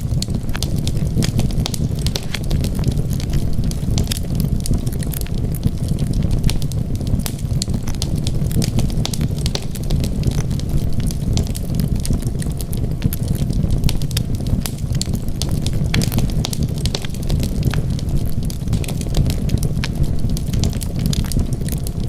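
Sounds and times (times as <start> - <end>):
low rumble of burning logs: 0.0 - 22.0
wood fire crackling: 0.0 - 22.0.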